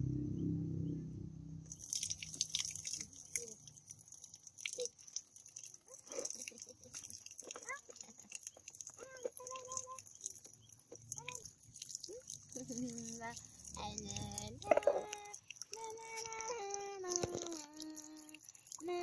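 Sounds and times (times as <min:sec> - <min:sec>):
water splashing onto concrete: 0:01.7 - 0:19.0.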